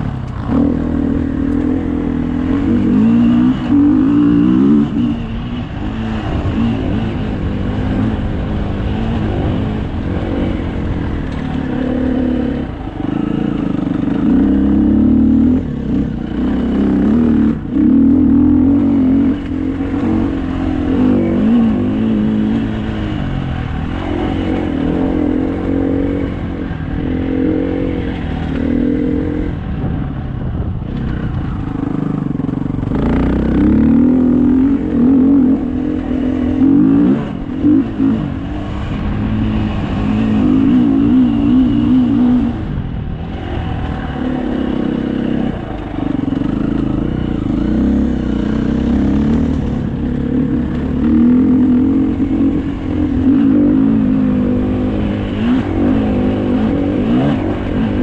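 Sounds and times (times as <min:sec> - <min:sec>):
dirt bike engine revving: 0:00.0 - 0:30.0, 0:30.9 - 0:58.0.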